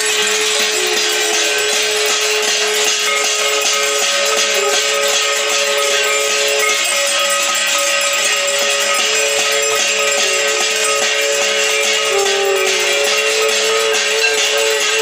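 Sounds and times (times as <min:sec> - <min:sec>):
spoons beating steel plates: 0:00.0 - 0:15.0
steady ringing tones: 0:00.0 - 0:15.0.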